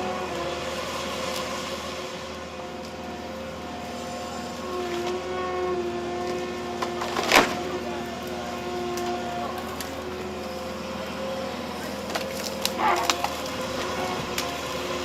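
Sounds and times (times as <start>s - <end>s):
heavy machine engine and hydraulics: 0.0s - 15.0s.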